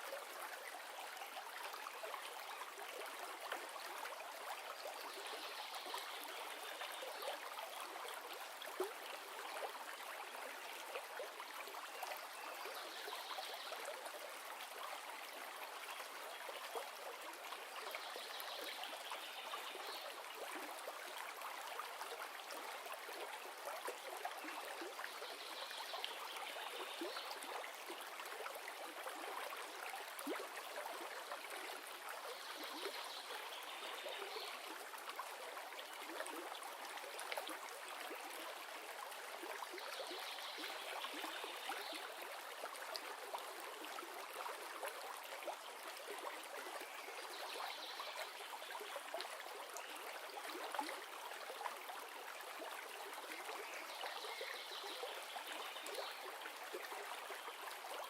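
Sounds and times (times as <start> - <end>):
river water running: 0.0 - 58.0.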